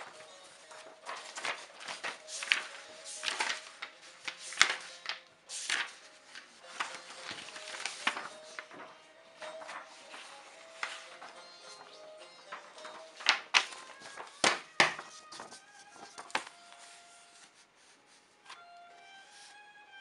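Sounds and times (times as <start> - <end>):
faint background music: 0.0 - 20.0.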